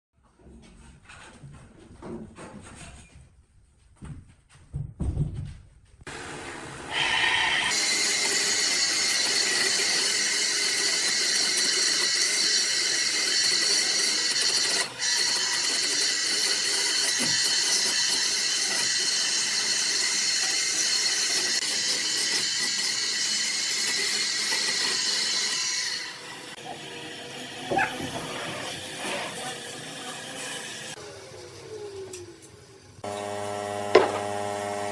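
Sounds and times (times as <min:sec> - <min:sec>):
power tool whining: 0:06.9 - 0:34.9.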